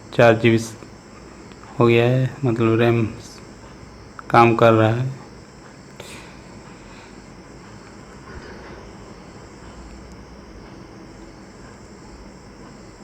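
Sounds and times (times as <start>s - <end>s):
low background hum and hiss: 0.0s - 13.0s.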